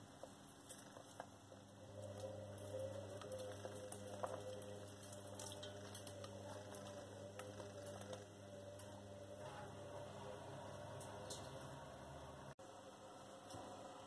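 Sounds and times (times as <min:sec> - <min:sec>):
steady low hum: 0:00.6 - 0:14.0.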